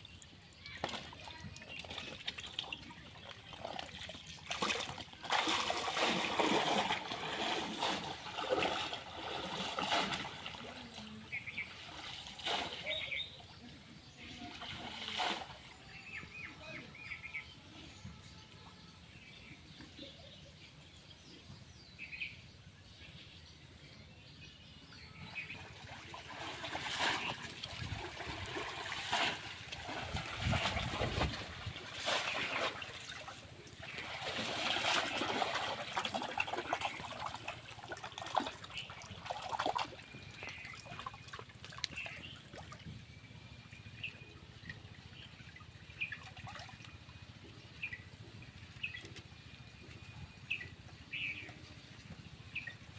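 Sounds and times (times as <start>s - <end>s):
water splashing and sloshing: 0.0s - 17.1s, 25.2s - 52.9s.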